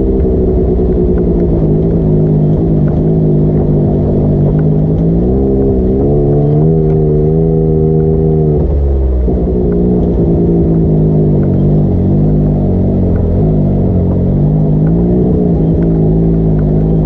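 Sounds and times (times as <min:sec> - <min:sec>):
low rumble: 0:00.0 - 0:17.0
vehicle engine revving: 0:00.0 - 0:17.0.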